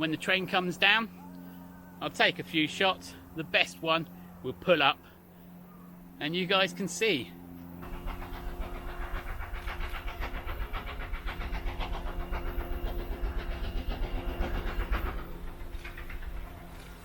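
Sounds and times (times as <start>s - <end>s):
steam locomotive chuffing: 0.0s - 5.3s, 6.2s - 17.0s.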